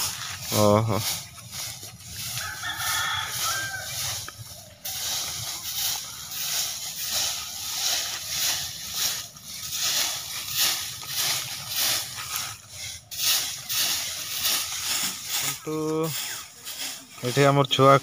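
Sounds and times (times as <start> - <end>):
broom sweeping dry leaves: 0.0 - 18.0.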